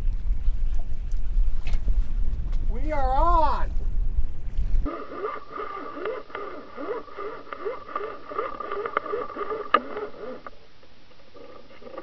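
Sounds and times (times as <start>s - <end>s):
steady high whine: 0.0s - 12.0s.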